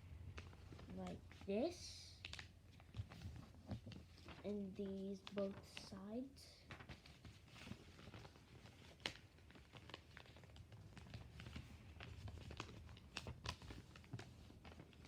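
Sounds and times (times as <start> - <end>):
paper being folded and creased: 0.3 - 15.0.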